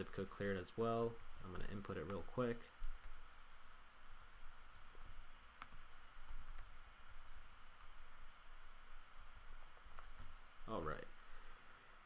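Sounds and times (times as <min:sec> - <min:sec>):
keyboard typing: 0:00.0 - 0:02.2, 0:02.8 - 0:08.4, 0:09.0 - 0:10.9.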